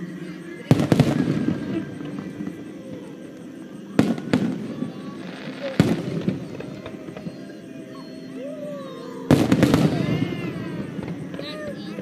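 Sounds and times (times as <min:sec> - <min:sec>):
firework crackle: 0:00.3 - 0:07.6, 0:08.8 - 0:12.0.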